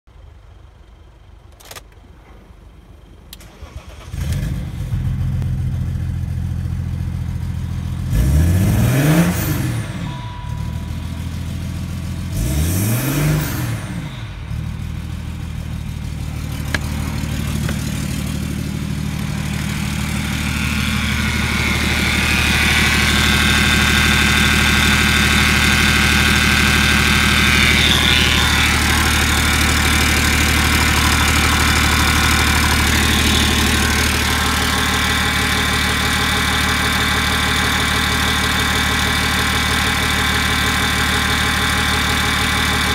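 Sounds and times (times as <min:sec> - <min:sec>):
diesel engine revving and idling: 0:03.3 - 0:42.9.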